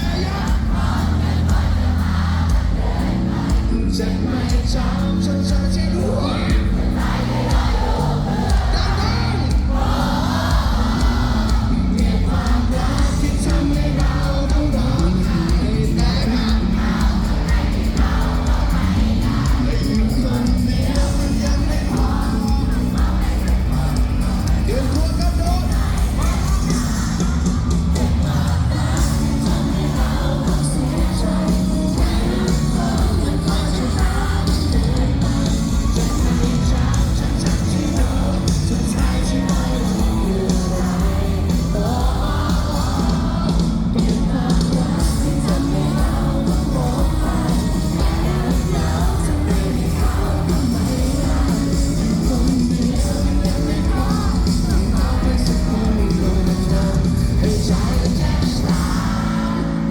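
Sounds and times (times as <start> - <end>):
live pop-rock band: 0.0 - 59.9.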